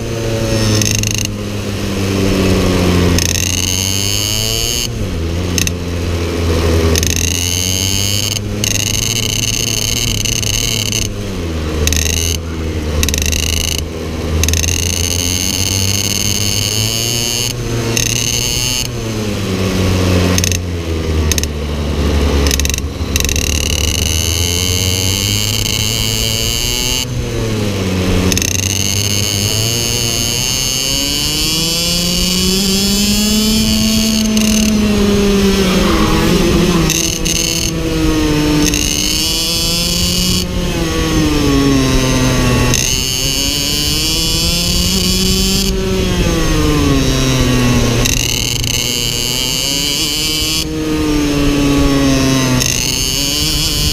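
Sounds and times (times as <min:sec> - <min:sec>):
kart engine racing: 0:00.0 - 0:53.9.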